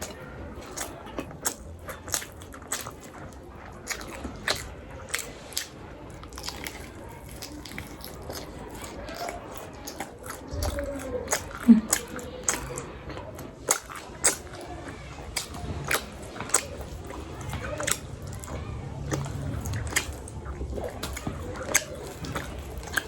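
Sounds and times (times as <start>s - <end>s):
biting and chewing: 0.0s - 23.0s
wet mouth clicks: 0.0s - 23.0s.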